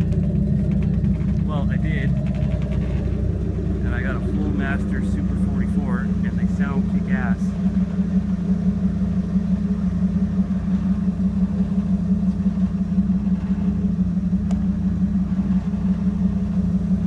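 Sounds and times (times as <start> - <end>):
engine idling with low rumble: 0.0 - 17.0.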